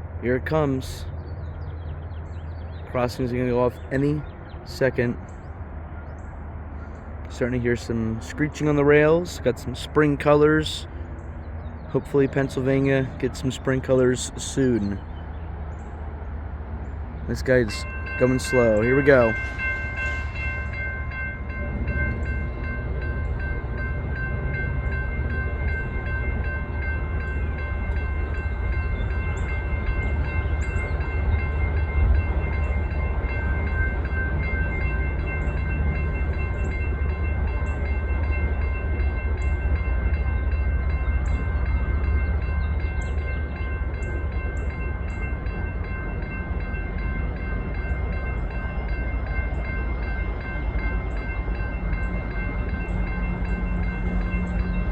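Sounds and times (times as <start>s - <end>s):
diesel locomotives rumbling: 0.0s - 54.9s.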